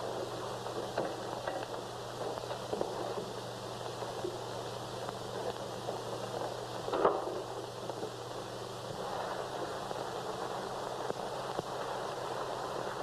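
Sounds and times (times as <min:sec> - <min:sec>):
film soundtrack hiss: 0:00.0 - 0:13.0
low hum: 0:00.0 - 0:13.0.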